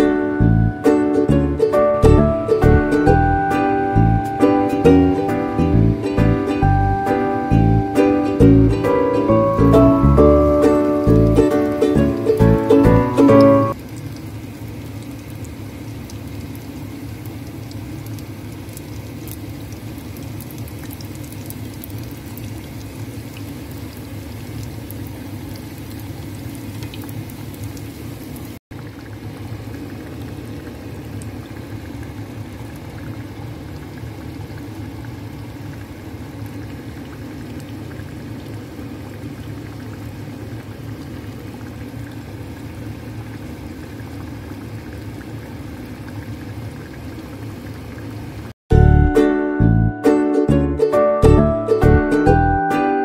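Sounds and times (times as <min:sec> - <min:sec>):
food deep-frying in oil: 0:00.0 - 0:48.6.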